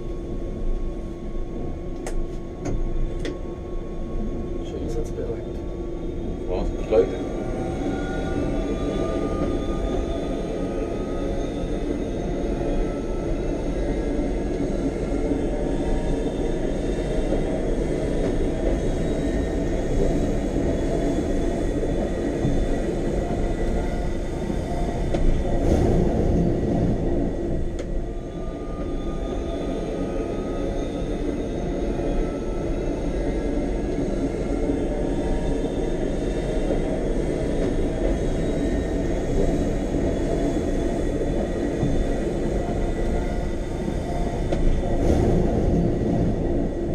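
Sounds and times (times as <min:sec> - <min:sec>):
electric train rumbling: 0:00.0 - 0:46.9
faint whining tones: 0:00.0 - 0:46.9.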